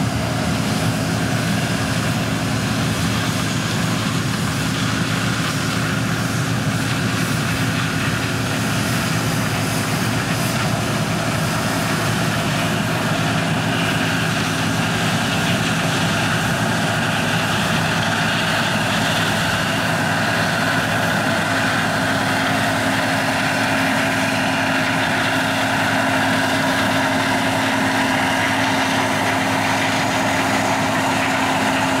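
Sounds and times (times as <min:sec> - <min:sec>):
combine harvester and tractor droning: 0:00.0 - 0:32.0.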